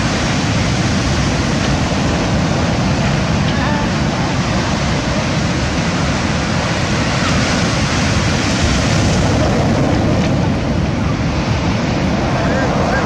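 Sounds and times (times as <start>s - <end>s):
waves breaking on pebble beach: 0.0s - 13.0s.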